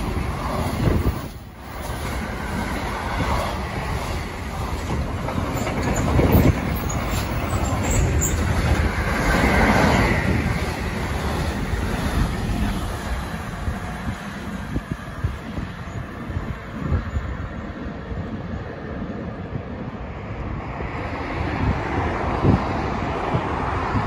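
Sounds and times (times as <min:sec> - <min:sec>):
rushing air: 0:00.0 - 0:24.0
train wheels on rails: 0:00.0 - 0:24.0.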